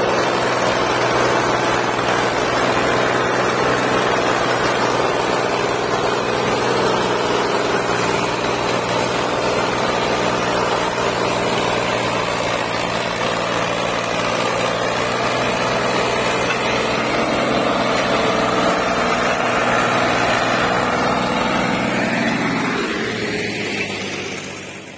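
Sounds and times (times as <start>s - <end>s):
tractor diesel engine under load: 0.0s - 24.9s.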